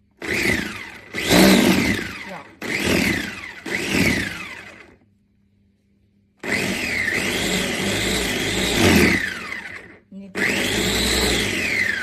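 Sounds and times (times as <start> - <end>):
meat grinder motor whining: 0.1 - 5.0, 6.4 - 12.0.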